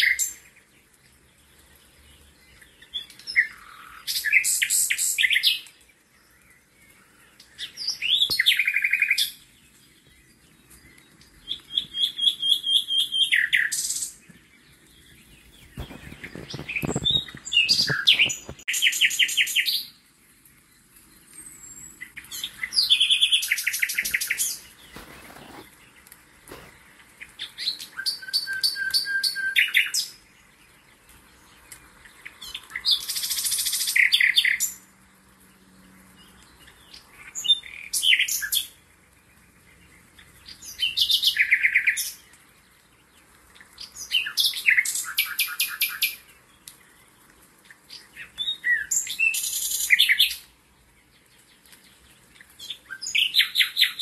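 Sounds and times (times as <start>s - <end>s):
songbird singing trills and whistles: 0.0s - 0.8s, 1.4s - 20.0s, 20.7s - 25.6s, 26.5s - 34.8s, 36.1s - 38.8s, 39.6s - 47.2s, 47.8s - 54.0s.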